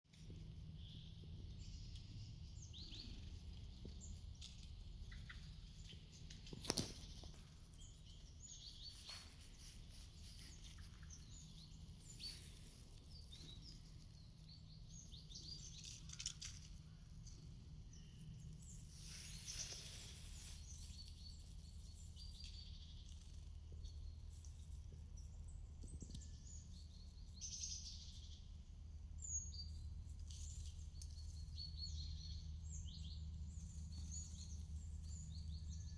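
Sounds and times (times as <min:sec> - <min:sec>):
low background rumble: 0:00.1 - 0:35.9
small songbirds chirping: 0:00.1 - 0:35.9.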